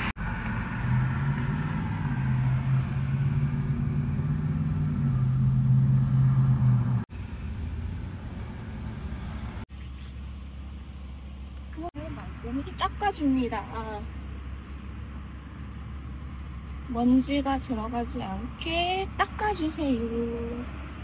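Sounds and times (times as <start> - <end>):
car engine rumble from inside: 0.0 - 21.0.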